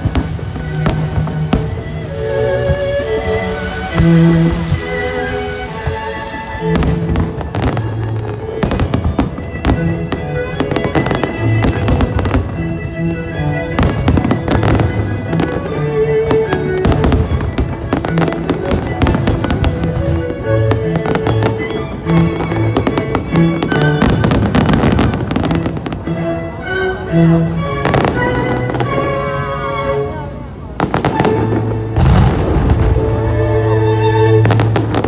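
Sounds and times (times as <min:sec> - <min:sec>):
fireworks bursting and crackling: 0:00.0 - 0:26.1, 0:30.8 - 0:35.0
music with sustained notes: 0:00.0 - 0:35.0.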